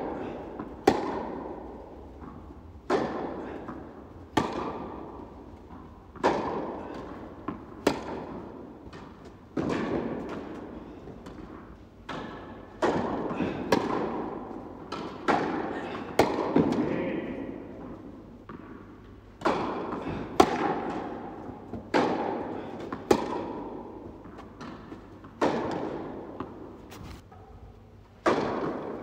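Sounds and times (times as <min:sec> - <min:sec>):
balls bouncing on hard court: 0:00.0 - 0:27.2, 0:28.2 - 0:29.0
tennis balls struck by rackets: 0:00.0 - 0:27.6, 0:28.2 - 0:29.0.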